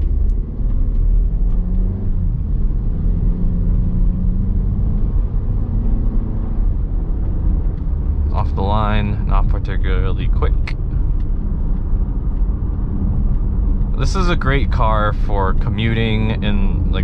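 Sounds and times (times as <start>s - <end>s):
car engine accelerating: 0.0s - 17.0s
road noise: 0.0s - 17.0s.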